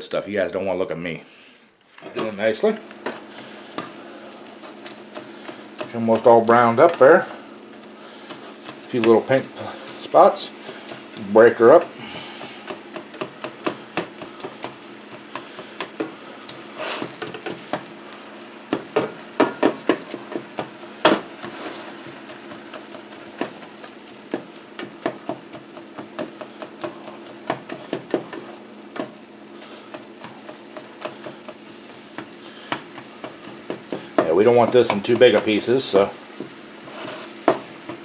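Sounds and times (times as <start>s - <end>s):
meat sizzling in a skillet: 2.4s - 38.0s.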